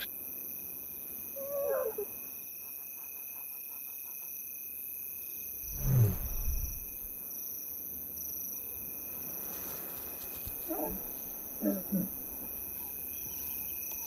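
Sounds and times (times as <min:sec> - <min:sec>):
crickets chirping: 0:00.0 - 0:07.6, 0:08.2 - 0:14.0.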